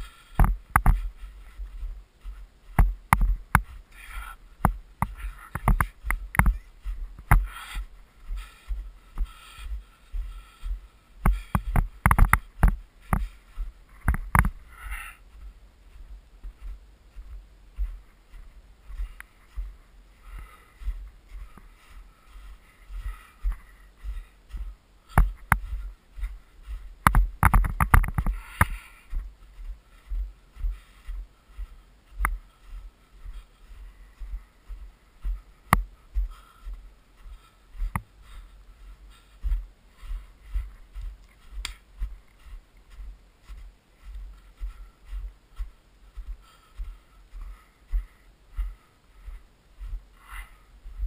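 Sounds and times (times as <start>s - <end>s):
footsteps crunching on snow: 0.0s - 51.0s.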